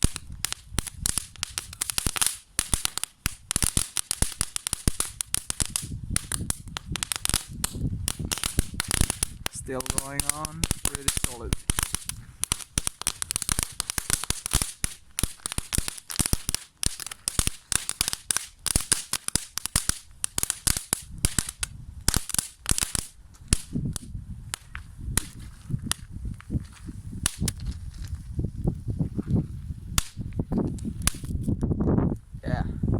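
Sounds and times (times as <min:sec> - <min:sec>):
firework crackling pops: 0:00.0 - 0:28.8, 0:29.8 - 0:31.9.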